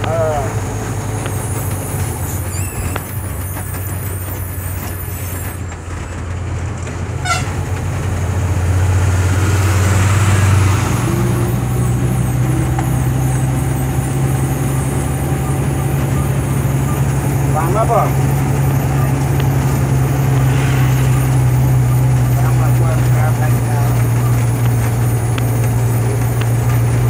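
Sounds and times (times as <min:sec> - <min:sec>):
vehicle engine drone: 0:00.0 - 0:27.0.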